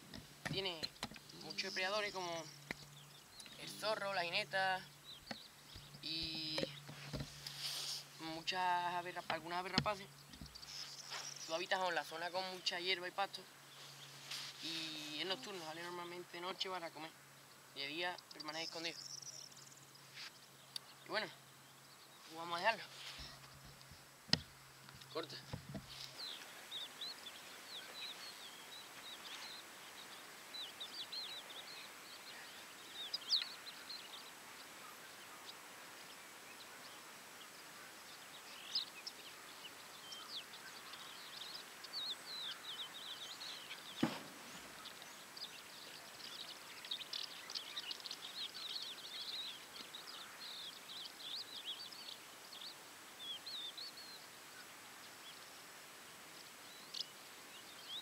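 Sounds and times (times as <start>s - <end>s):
small birds chirping: 0.0s - 58.0s
steady outdoor hiss: 0.0s - 58.0s.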